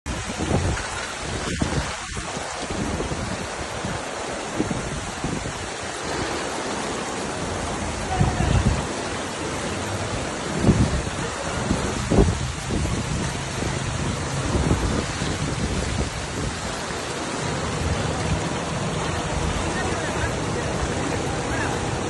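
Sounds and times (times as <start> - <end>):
wind thudding on microphone: 0.0 - 22.0
heavy rain on flooded street: 0.1 - 22.0.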